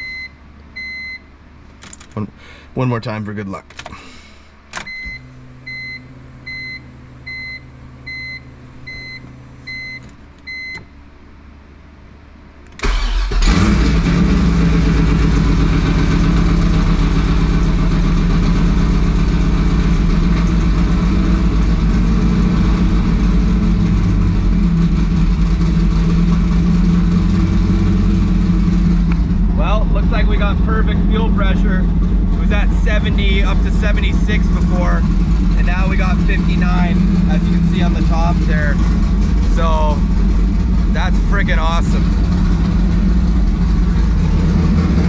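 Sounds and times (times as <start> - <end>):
car engine starting and idling: 0.0 - 45.0.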